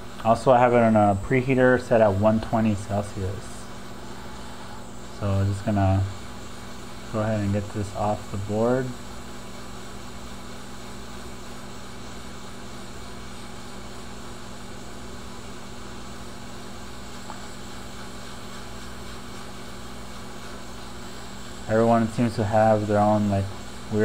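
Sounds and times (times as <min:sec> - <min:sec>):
hot air blower hissing: 0:00.0 - 0:24.0.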